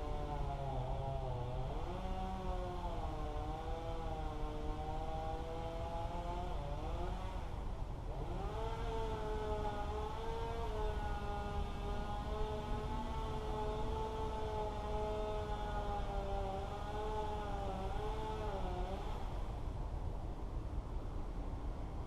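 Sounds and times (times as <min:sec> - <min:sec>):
engine running at high speed: 0:00.0 - 0:19.6.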